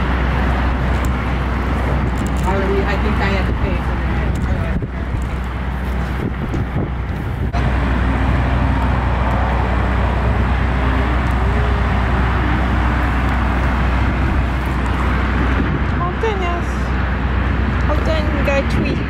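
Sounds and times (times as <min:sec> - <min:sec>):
low motor-like hum: 0:00.0 - 0:19.0.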